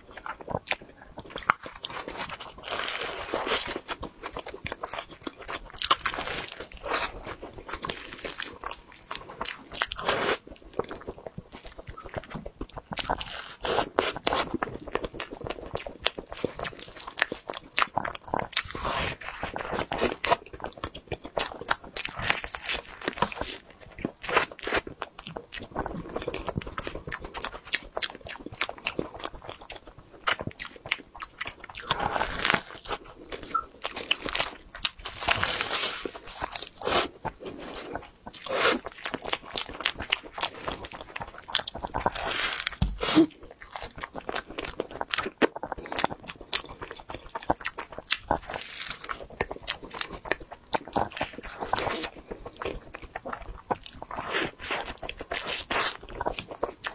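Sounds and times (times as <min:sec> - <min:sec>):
person chewing pastry: 0:00.0 - 0:56.9.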